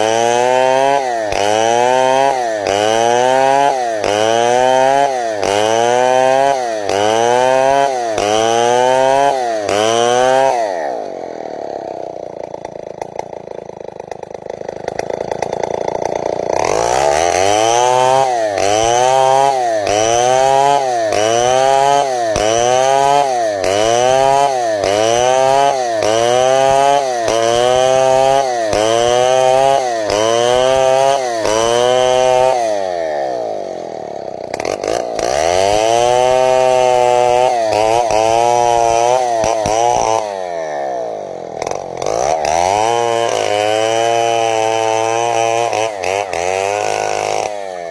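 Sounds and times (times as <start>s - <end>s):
chainsaw cutting timber: 0.0s - 47.9s
chainsaw idling: 0.0s - 47.9s.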